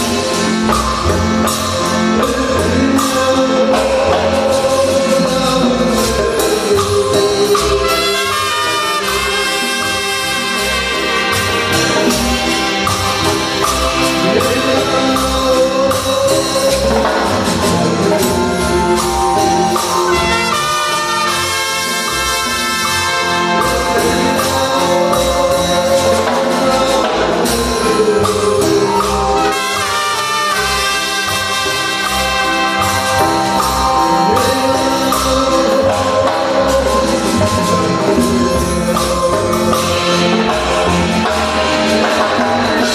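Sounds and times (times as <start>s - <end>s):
synthesized brass band music: 0.0s - 42.9s.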